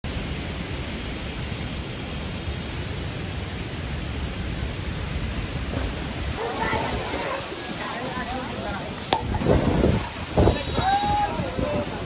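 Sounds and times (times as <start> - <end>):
rain rushing: 0.0 - 12.0
gusty wind buffeting: 0.1 - 12.0.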